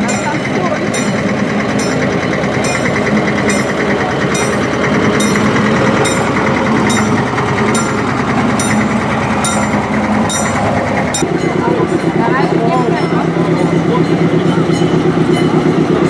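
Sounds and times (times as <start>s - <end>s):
diesel locomotive engine running: 0.0s - 16.0s.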